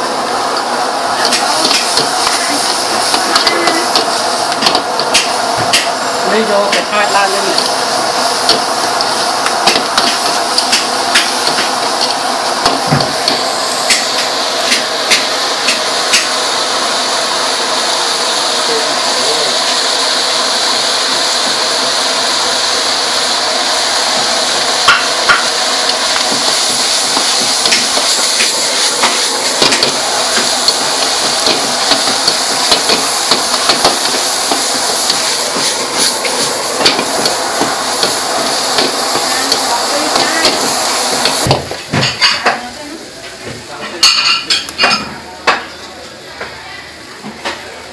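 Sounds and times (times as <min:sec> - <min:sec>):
food sizzling in hot oil: 0:00.0 - 0:43.4, 0:44.0 - 0:45.6.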